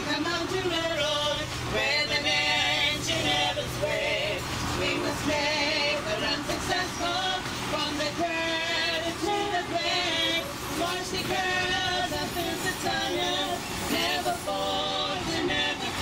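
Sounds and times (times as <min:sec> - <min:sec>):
train running rumble: 0:00.0 - 0:16.0
women's choir singing: 0:00.0 - 0:16.0.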